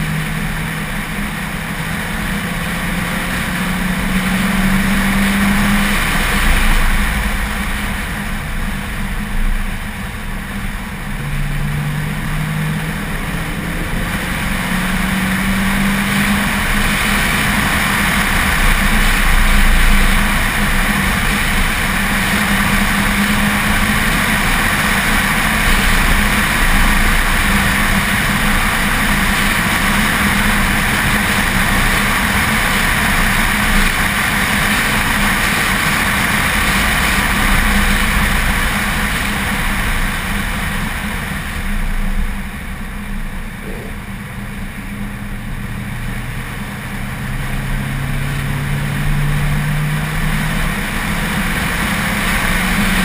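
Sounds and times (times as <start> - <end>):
car engine running hard: 0.0 - 53.0
road noise: 0.0 - 53.0.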